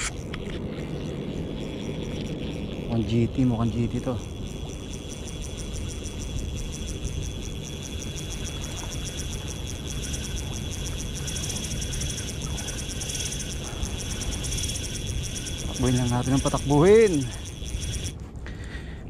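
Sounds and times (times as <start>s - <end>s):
fishing reel drag clicking: 2.8s - 18.2s.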